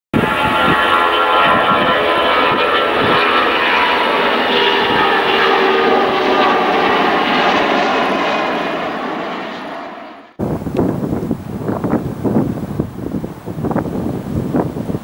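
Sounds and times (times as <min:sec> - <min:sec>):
jet airliner engines roaring: 0:00.2 - 0:15.0.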